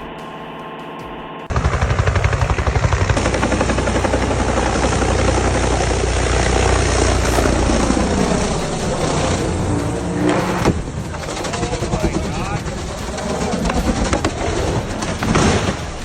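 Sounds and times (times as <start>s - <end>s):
helicopter rotor beating: 0.0s - 16.0s.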